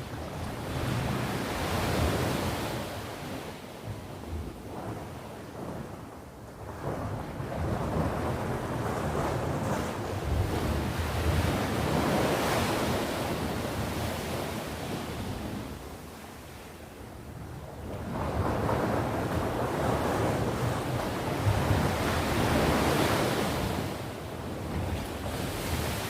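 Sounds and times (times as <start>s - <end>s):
sea waves breaking on shore: 0.0s - 26.0s
wind on microphone: 0.0s - 26.0s.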